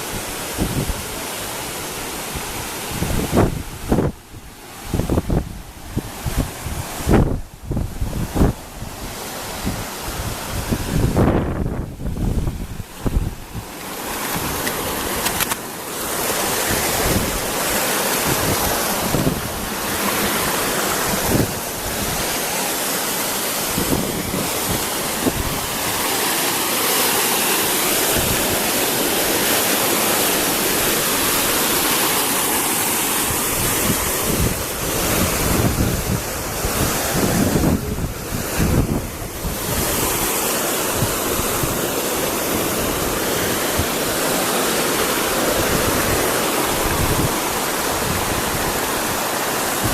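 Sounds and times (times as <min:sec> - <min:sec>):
wind buffeting microphone: 0:00.0 - 0:26.5, 0:27.1 - 0:49.9
waterfall roaring: 0:00.0 - 0:49.9.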